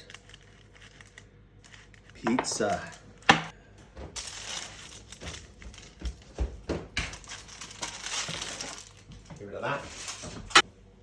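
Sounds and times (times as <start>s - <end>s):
food rustling: 0.0s - 3.3s, 4.1s - 10.7s.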